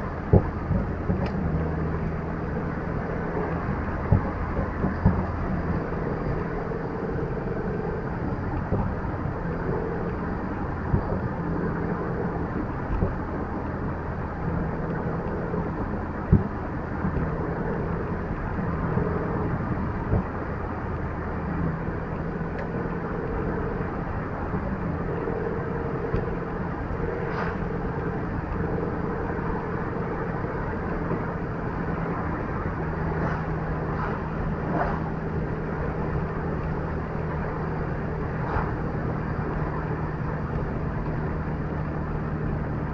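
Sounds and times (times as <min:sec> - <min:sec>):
car engine and road noise: 0:00.0 - 0:42.9.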